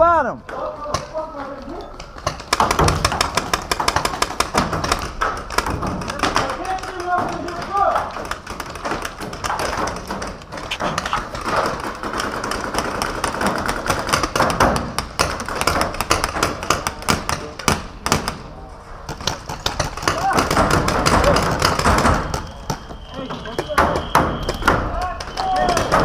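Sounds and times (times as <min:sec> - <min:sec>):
paintball guns shooting: 0:00.6 - 0:26.0.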